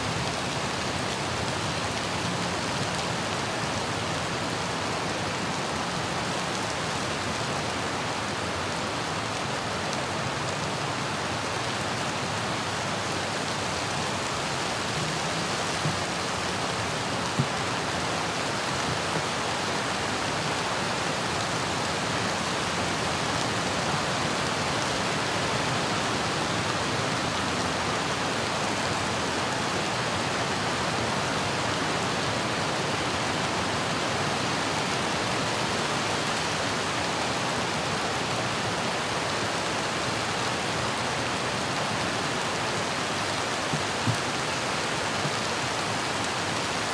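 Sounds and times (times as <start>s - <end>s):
rain pattering: 0.0s - 46.9s.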